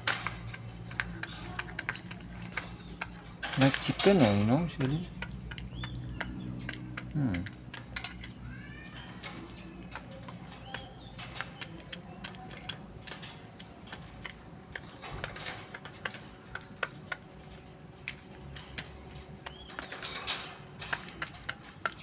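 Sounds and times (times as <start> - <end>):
quail pecking grains: 0.0 - 22.0.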